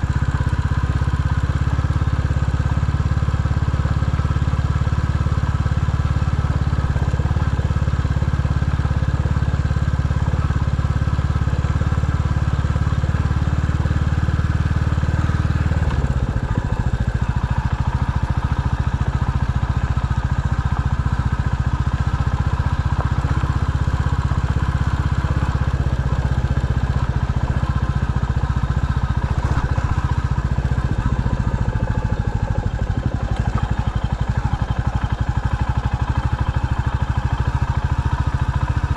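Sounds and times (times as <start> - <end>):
vehicle engine driving: 0.0 - 38.9.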